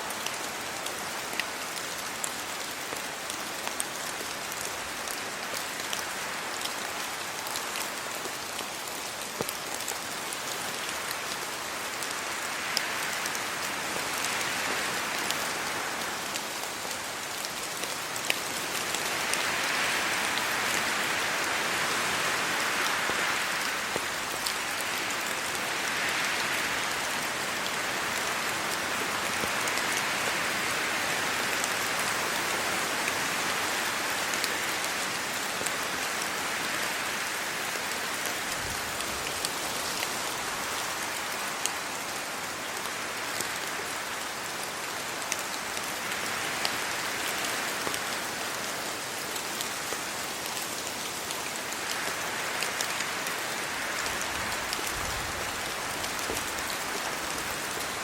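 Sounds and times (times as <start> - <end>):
rain on road and leaves: 0.0 - 58.0
wind gusting through leaves: 0.0 - 58.0.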